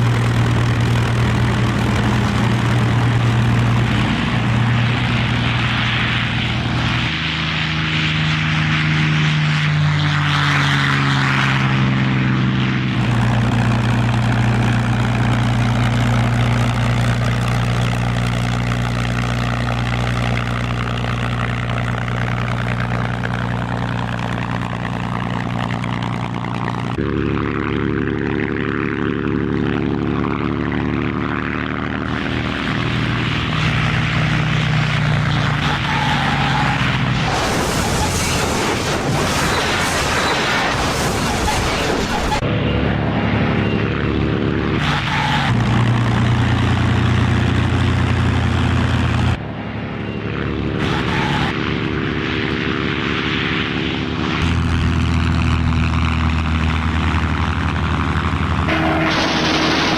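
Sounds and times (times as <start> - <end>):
propeller aircraft engines droning: 0.0 - 59.9.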